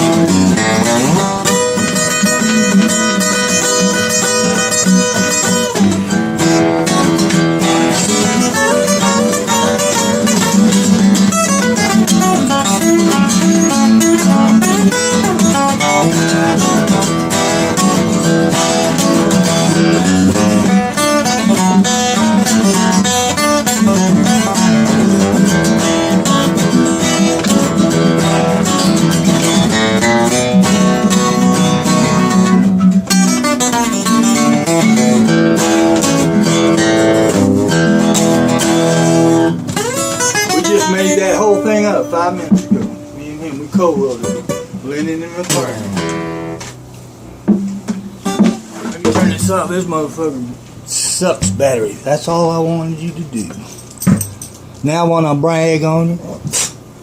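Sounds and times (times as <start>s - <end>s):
acoustic guitar playing blues: 0.0s - 57.0s.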